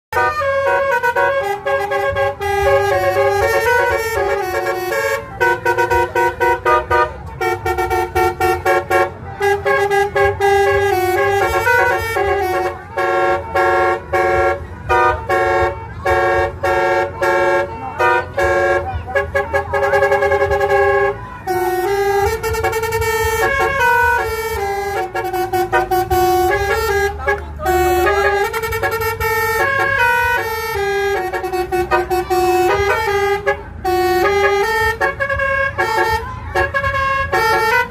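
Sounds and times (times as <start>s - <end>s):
horn playing a tune: 0.1s - 37.9s.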